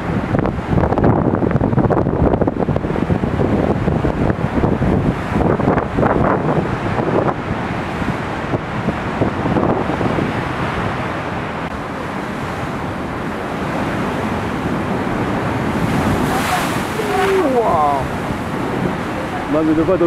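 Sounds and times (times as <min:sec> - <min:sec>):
wind buffeting microphone: 0:00.0 - 0:20.0
waves breaking over rocks: 0:00.1 - 0:20.0.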